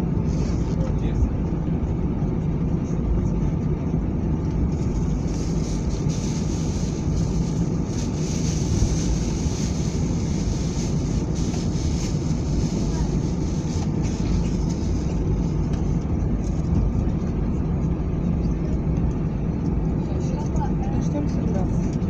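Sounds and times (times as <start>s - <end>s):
airliner engines rumbling: 0.0s - 22.0s.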